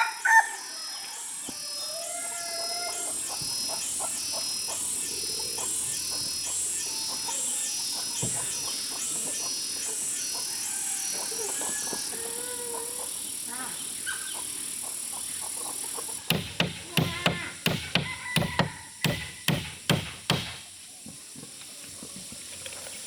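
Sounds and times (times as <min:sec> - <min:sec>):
insect chirps and peeps: 0:00.0 - 0:23.0
insect chorus buzzing: 0:00.0 - 0:23.0.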